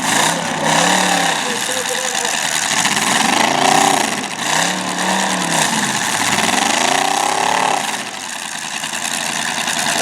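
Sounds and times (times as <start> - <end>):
car engine revving: 0.0 - 10.0
din of running engines: 0.0 - 10.0.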